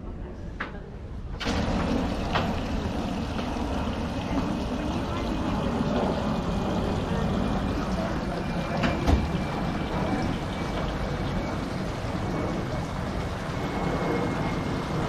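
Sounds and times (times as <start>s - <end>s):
crowd chatter: 0.0s - 15.0s.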